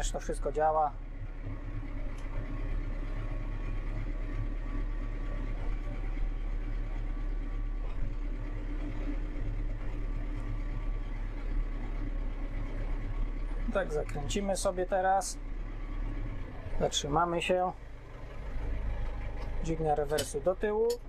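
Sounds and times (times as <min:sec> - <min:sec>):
tractor diesel engine humming: 0:00.0 - 0:21.0.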